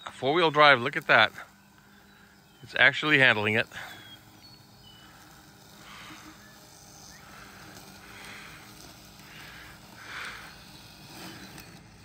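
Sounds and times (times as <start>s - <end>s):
robotic lawn mower hum: 0.0s - 12.0s
soft swells of hiss: 0.0s - 12.0s.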